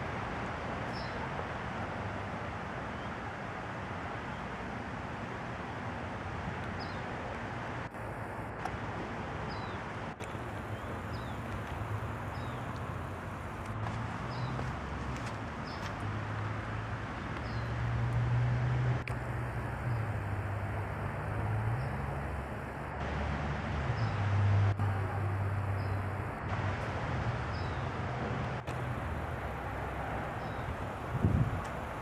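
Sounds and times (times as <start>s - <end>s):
traffic engine hum: 0.0s - 32.0s.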